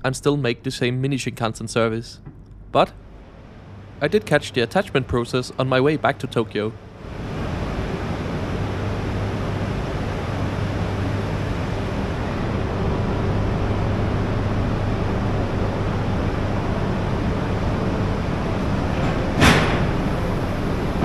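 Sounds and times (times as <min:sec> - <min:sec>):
train humming: 0:00.0 - 0:21.0
train rumble and hiss: 0:00.0 - 0:21.0.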